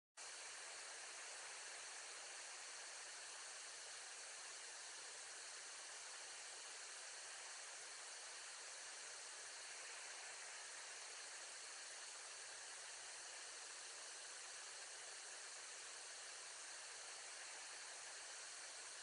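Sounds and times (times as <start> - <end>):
faint steady hiss: 0.2 - 19.0.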